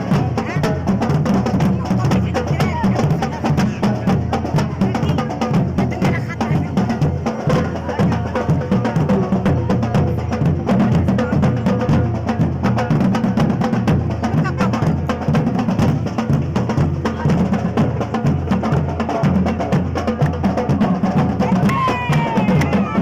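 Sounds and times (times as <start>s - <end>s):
drums and percussion beat: 0.0s - 23.0s.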